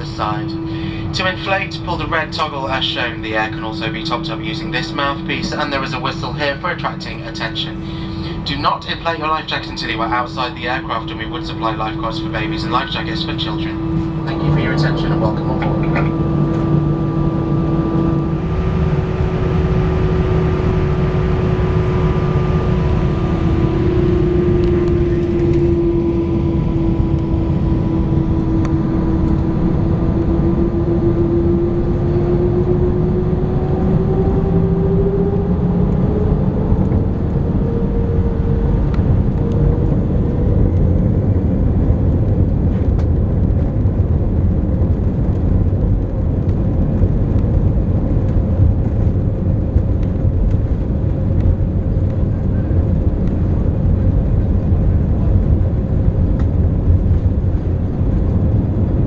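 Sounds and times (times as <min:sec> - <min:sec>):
jet engine rumble: 0:00.0 - 0:59.0
jet engine whine: 0:00.0 - 0:59.0.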